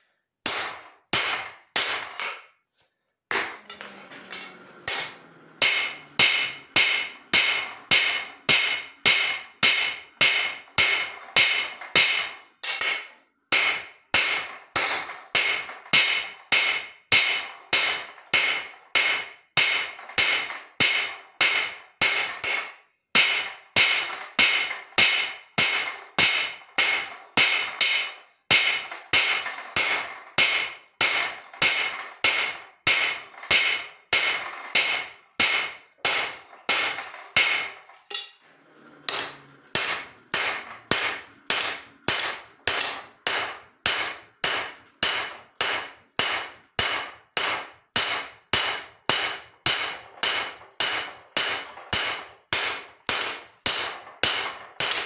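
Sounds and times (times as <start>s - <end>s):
hammer beating steel on anvil: 0.4s - 2.5s, 3.3s - 38.4s, 39.1s - 55.0s.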